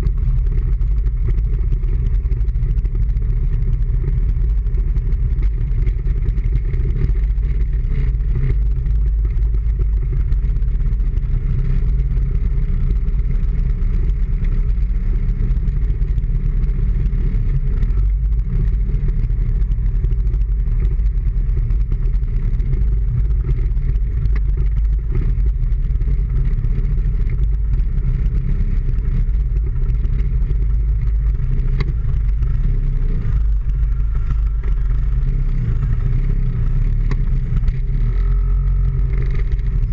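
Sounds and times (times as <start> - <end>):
low rumble on camera microphone: 0.0 - 39.9
motorbike engine running: 0.0 - 39.9.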